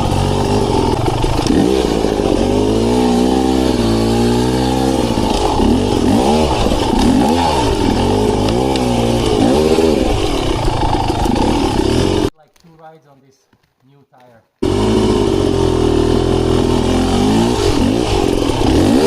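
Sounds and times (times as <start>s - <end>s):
dirt bike engine revving: 0.0s - 12.3s, 14.6s - 19.0s.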